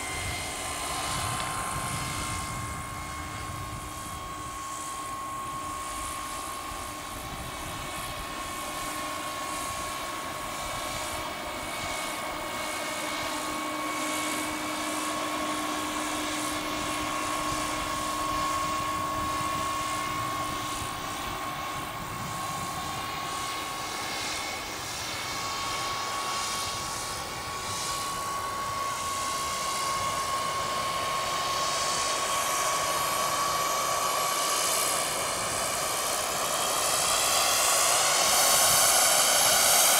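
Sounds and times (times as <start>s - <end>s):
turbine engine whine: 0.0s - 39.9s.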